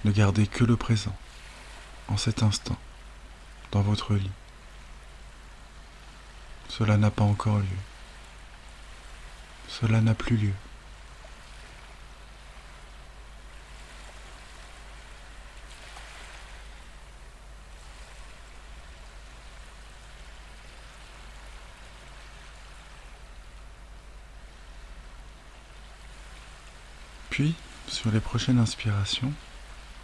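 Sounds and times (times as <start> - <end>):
ocean waves washing ashore: 0.0 - 30.0.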